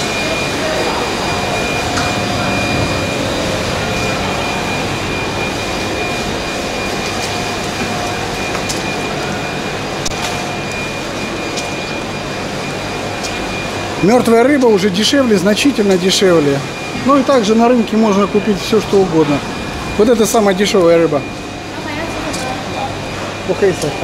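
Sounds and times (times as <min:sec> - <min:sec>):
faint high whine: 0:00.0 - 0:24.0
water circulation and air pumps: 0:00.0 - 0:24.0.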